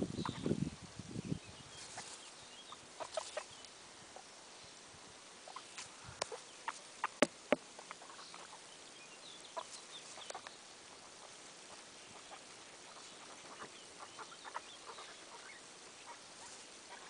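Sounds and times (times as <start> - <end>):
guinea pigs nibbling grass: 1.8 - 4.2, 5.4 - 17.0.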